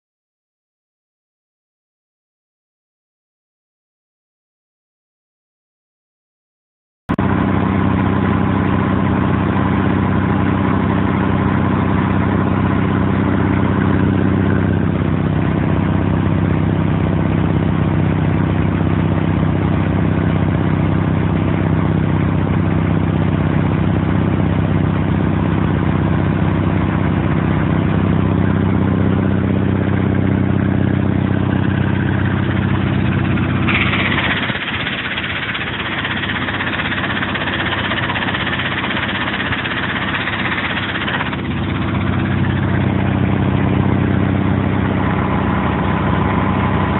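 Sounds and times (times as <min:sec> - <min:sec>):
air compressor drone: 0:07.2 - 0:46.9.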